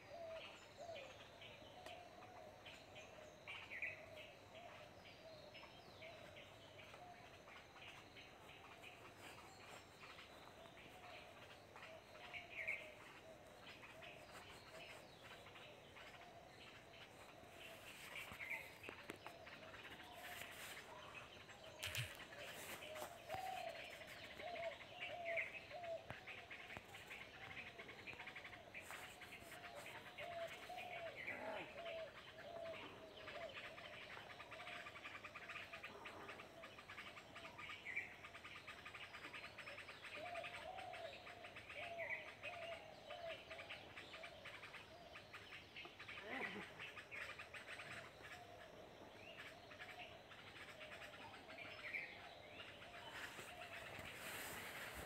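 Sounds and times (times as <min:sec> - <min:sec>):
wavering low bird calls: 0:00.0 - 0:55.0.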